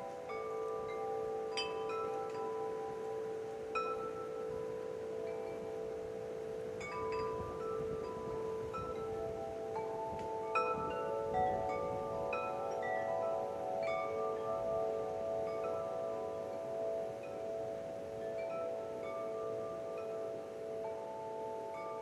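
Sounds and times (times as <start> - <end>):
metal wind chimes ringing: 0.0 - 22.0.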